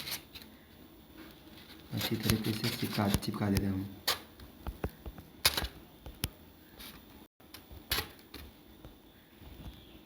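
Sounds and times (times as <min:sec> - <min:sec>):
light handling noise: 0:00.0 - 0:08.6.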